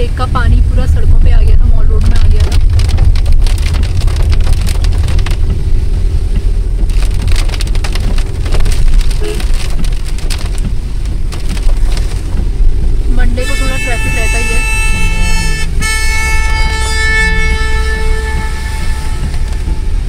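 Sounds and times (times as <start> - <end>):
car driving on wet road: 0.0 - 20.0
heavy rain on car roof: 0.0 - 20.0.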